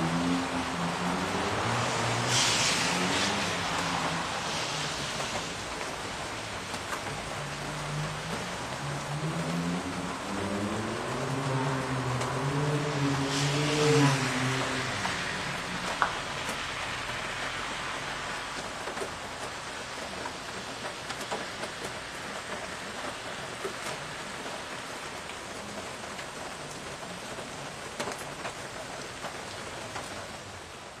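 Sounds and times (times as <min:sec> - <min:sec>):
steady rain on street: 0:00.0 - 0:31.0.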